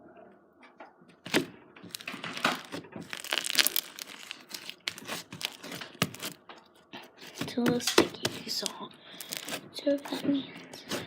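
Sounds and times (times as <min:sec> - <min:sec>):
slime crackling and tearing: 0:01.3 - 0:06.5, 0:07.2 - 0:11.0.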